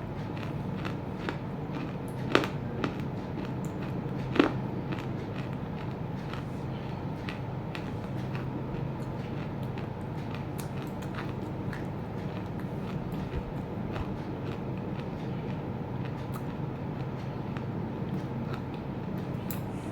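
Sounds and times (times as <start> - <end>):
low background hum: 0.0 - 19.9
crisp chewing crunches: 0.2 - 19.7.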